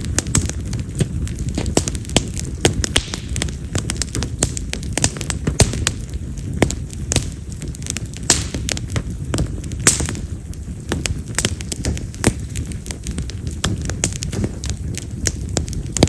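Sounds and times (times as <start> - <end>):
firewood crackling and popping: 0.0 - 16.0
low rush of flame: 0.0 - 16.0.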